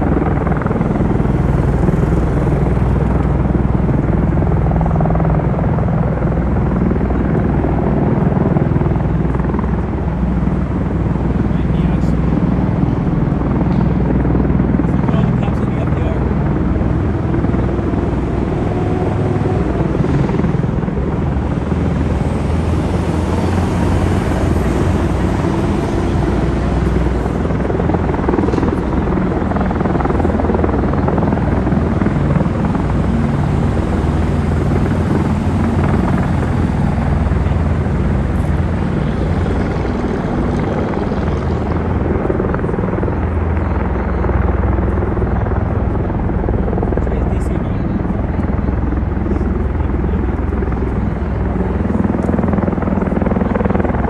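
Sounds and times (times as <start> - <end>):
deep aircraft rotor noise: 0.0 - 54.0.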